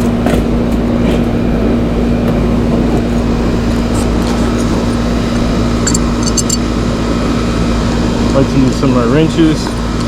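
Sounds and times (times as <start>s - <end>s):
low rumble: 0.0s - 8.8s
mechanical hum: 0.0s - 10.0s.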